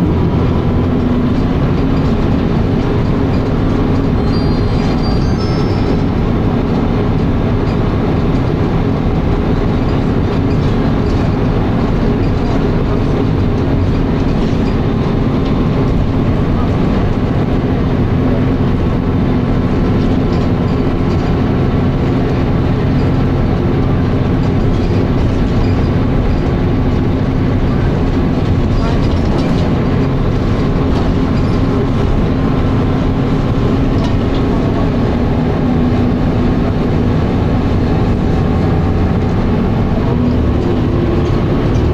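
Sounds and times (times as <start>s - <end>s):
bus engine at high revs: 0.0s - 41.9s.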